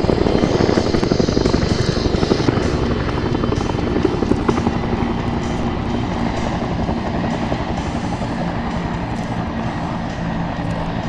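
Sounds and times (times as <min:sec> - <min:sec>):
helicopter rotors chopping: 0:00.0 - 0:11.0.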